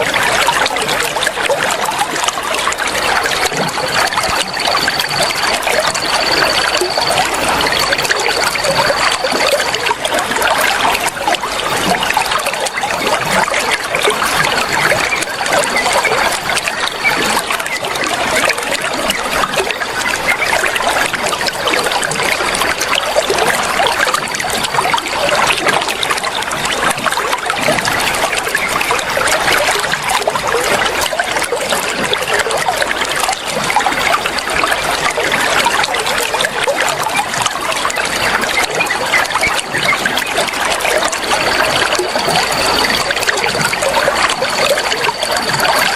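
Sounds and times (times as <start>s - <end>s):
water trickling and splashing: 0.0s - 45.9s.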